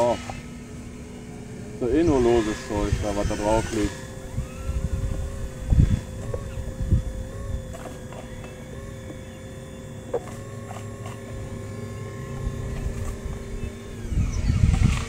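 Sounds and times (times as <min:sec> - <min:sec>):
model excavator motors whining: 0:00.0 - 0:15.0.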